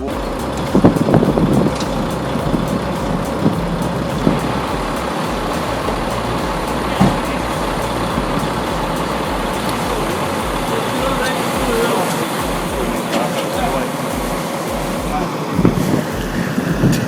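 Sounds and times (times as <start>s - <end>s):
heavy diesel machine running: 0.0s - 17.0s.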